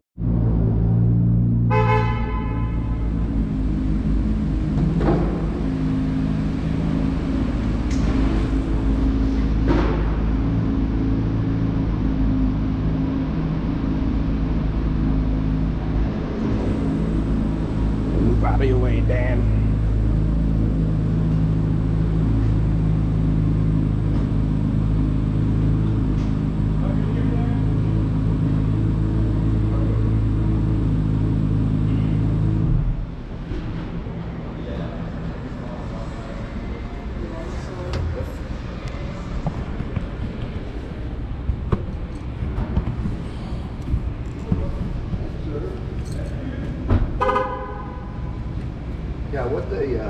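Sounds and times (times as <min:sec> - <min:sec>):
car engine running at low revs: 0:00.2 - 0:50.0.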